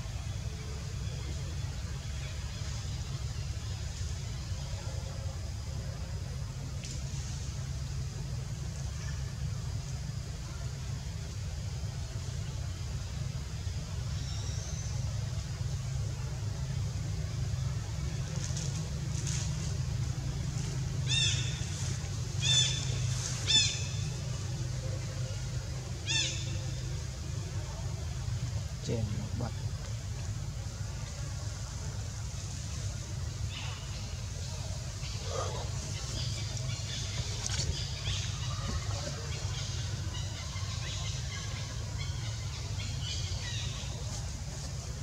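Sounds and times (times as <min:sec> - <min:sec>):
steady low hum: 0:00.0 - 0:45.0
steady low rumble: 0:00.0 - 0:45.0.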